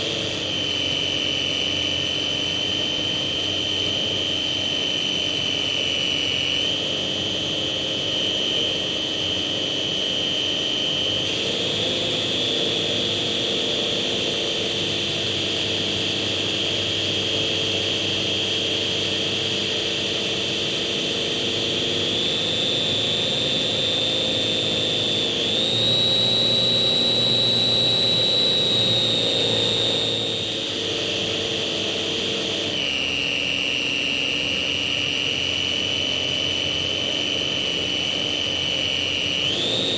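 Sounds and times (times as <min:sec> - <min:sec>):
model airplane motor whine: 0:00.0 - 0:39.9.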